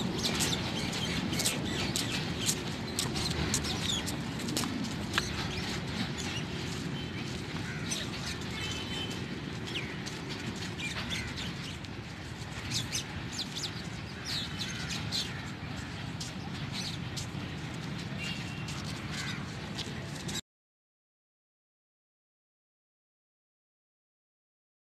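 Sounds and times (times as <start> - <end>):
birds chirping: 0.0 - 20.4.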